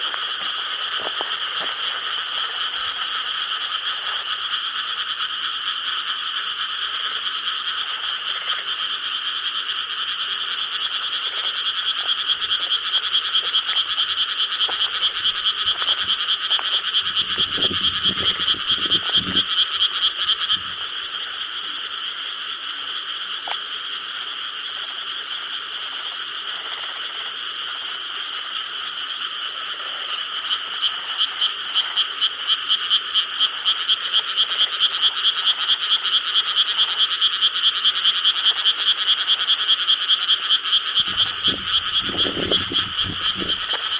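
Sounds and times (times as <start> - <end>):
nearby frog pulsed calls: 0.0 - 25.3, 30.2 - 43.9
frog chorus trilling: 0.0 - 43.9.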